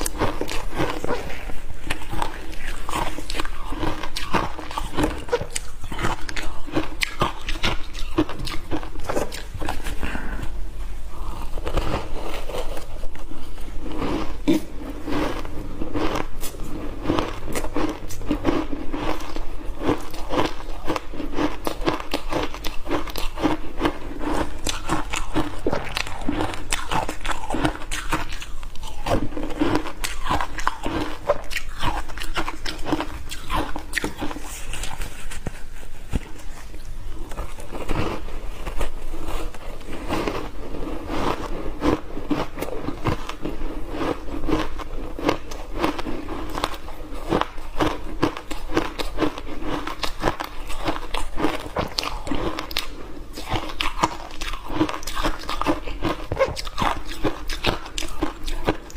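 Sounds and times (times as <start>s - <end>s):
ice being chewed: 0.0s - 58.9s.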